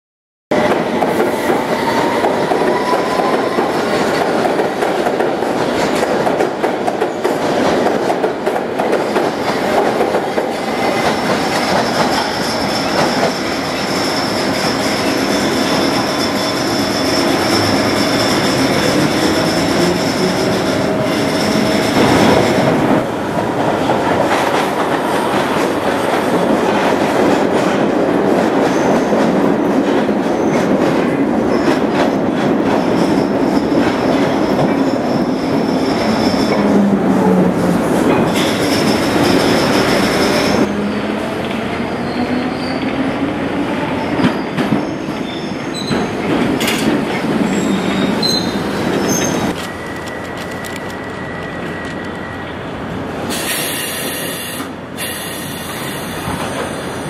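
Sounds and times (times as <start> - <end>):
train wheels rumbling on rails: 0.5 - 57.0.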